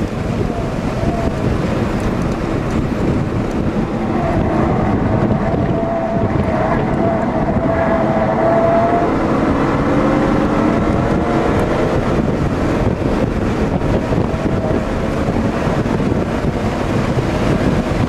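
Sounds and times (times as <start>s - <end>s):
car engine pulling: 0.0s - 18.0s
road and wind noise: 0.0s - 18.0s.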